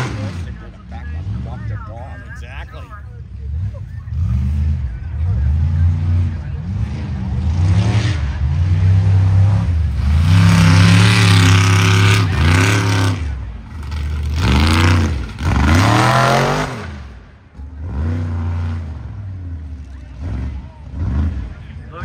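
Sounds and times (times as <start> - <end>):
truck engine revving hard: 0.0 - 22.0.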